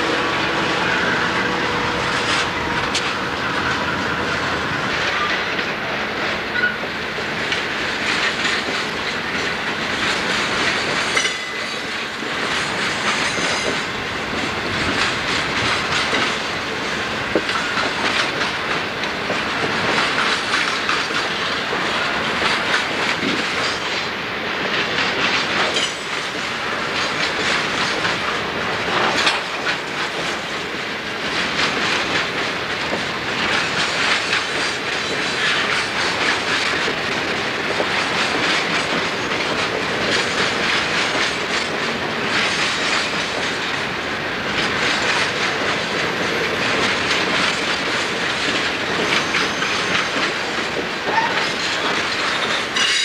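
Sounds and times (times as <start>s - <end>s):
train rumbling past: 0.0s - 53.0s
wheels clacking over rail joints: 0.0s - 53.0s.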